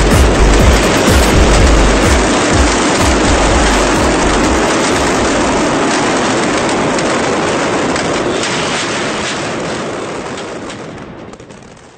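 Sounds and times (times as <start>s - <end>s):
firecracker barrage crackling: 0.0s - 11.9s.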